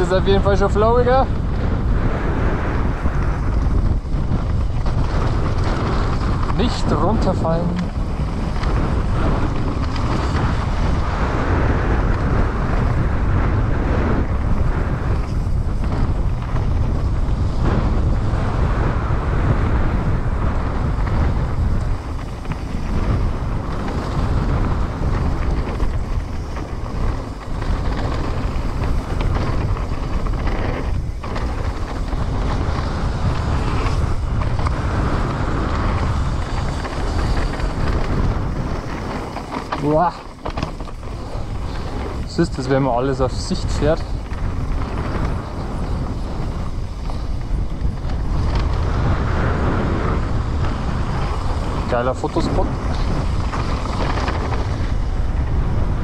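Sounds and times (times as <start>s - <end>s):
tyres rumbling on dirt trail: 0.0s - 56.0s
wind buffeting microphone: 0.0s - 56.0s.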